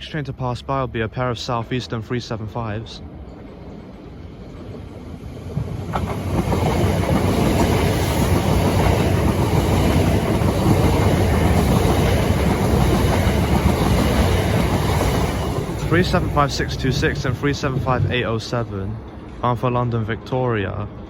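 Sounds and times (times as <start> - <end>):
train wheels rumbling on rail: 0.9 - 21.0.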